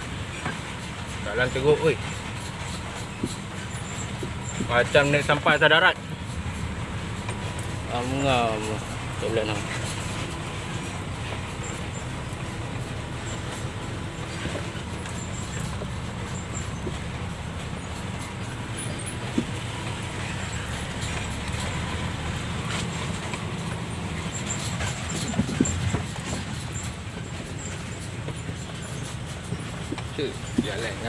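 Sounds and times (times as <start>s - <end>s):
cab rattles and clicks: 0.0s - 31.0s
lorry engine running low: 0.0s - 31.0s.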